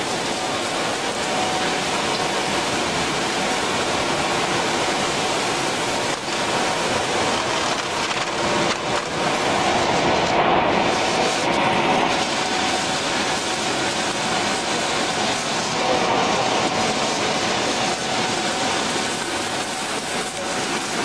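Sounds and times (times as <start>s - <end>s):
machinery hum: 0.0s - 21.0s
plastic flakes rushing through chutes: 0.0s - 21.0s.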